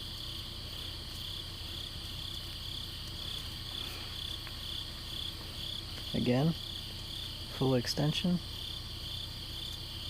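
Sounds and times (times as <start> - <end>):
crickets chirping: 0.0 - 10.0
low steady rumble: 0.0 - 10.0.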